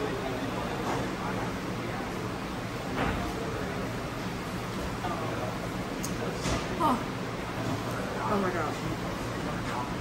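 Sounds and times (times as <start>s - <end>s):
faint indistinct chatter: 0.0s - 10.0s
restaurant background noise: 0.0s - 10.0s.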